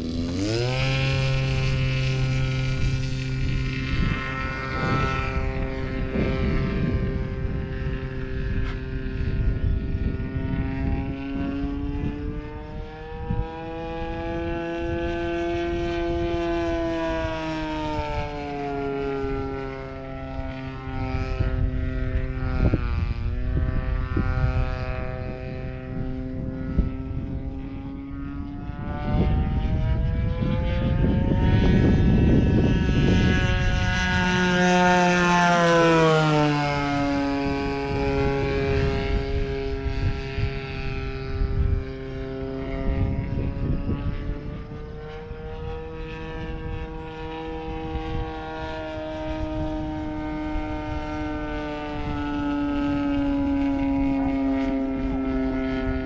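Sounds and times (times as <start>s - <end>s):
model airplane motor droning: 0.0s - 56.0s.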